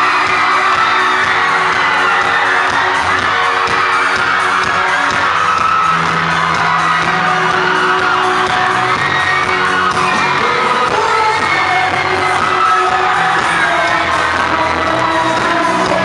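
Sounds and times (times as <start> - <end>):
crowd screaming and cheering: 0.0 - 16.0
loud music: 0.0 - 16.0.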